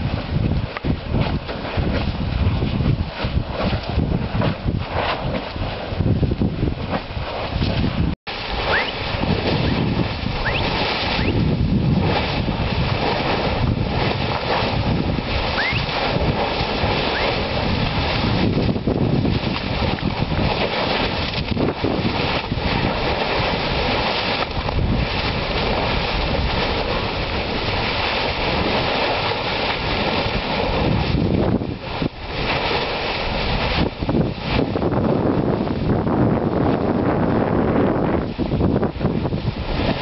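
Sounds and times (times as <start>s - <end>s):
lava churning and spattering: 0.0s - 40.0s
wind buffeting microphone: 0.0s - 40.0s.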